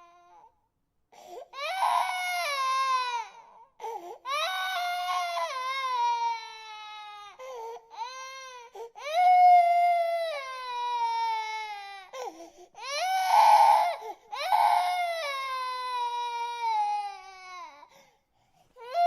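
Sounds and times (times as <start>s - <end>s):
infant crying: 1.2s - 18.0s, 18.8s - 19.0s.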